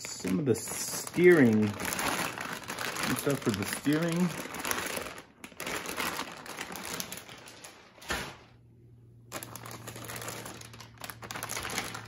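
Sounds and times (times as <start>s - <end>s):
plastic bags crinkling: 0.0s - 8.6s, 9.2s - 12.0s.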